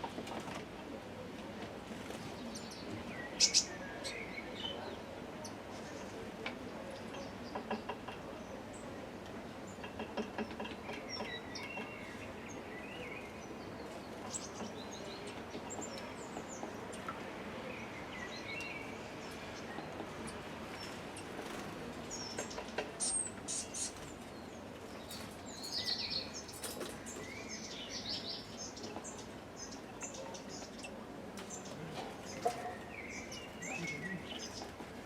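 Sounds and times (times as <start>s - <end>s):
small birds chirping: 2.0s - 9.0s, 9.6s - 35.0s.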